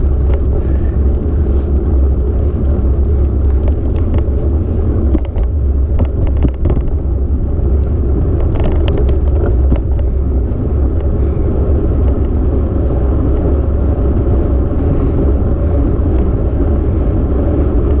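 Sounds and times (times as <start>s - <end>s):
tyre noise on rough asphalt: 0.0s - 18.0s
wind buffeting microphone: 0.0s - 18.0s.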